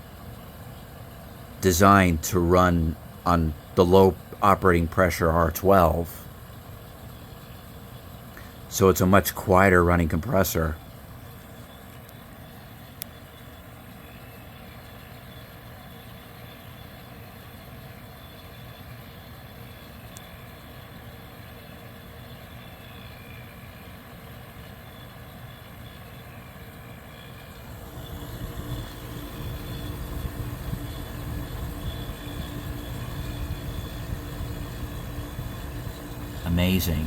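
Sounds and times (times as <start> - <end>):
dehumidifier humming: 0.0 - 37.0.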